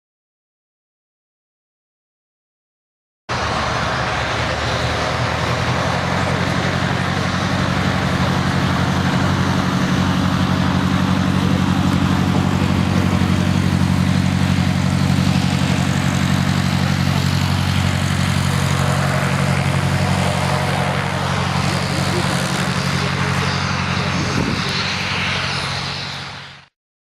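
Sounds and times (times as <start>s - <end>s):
low engine drone: 3.3s - 26.8s.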